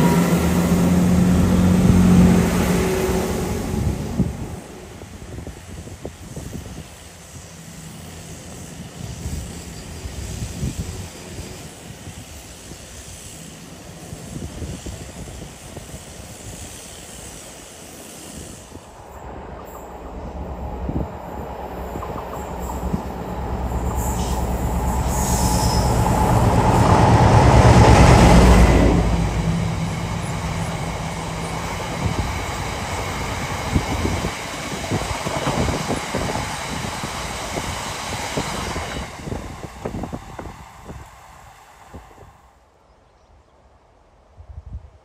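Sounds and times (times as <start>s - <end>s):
train rumble: 0.0s - 42.8s
diesel locomotive engine: 0.0s - 44.8s.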